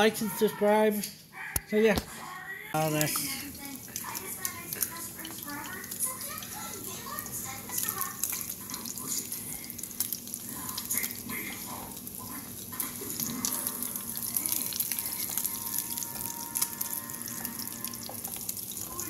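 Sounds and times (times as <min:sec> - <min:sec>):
meat sizzling and crackling in pan: 0:03.6 - 0:19.0.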